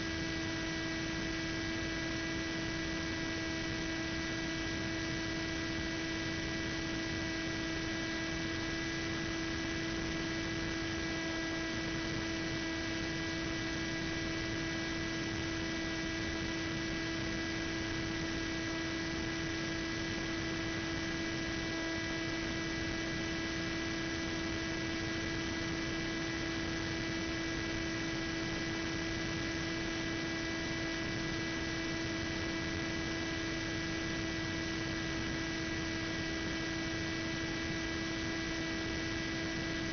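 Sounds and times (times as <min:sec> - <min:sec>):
steady motor hum: 0:00.0 - 0:39.9.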